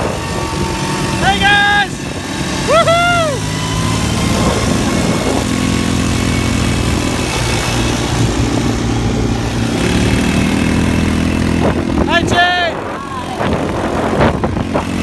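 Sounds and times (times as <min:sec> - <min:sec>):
wind on microphone: 0:00.0 - 0:01.2, 0:03.7 - 0:15.0
quad bike engine running: 0:00.0 - 0:15.0.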